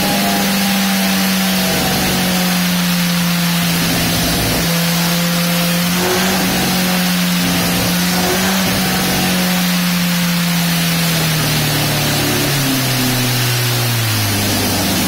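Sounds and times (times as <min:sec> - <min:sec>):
motorcycle engine revving high: 0:00.0 - 0:15.0
wide rushing noise: 0:00.0 - 0:15.0.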